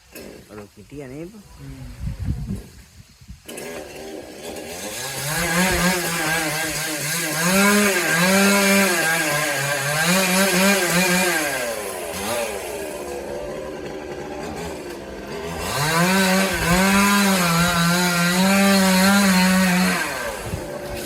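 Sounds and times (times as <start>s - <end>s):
chainsaw engine cutting wood: 0.0s - 0.7s, 3.4s - 21.0s.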